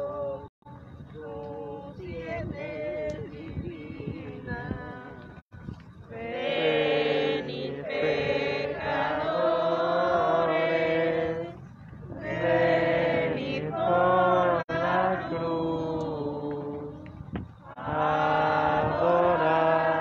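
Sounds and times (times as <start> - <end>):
group singing a hymn: 0.0 - 5.4, 6.1 - 20.0.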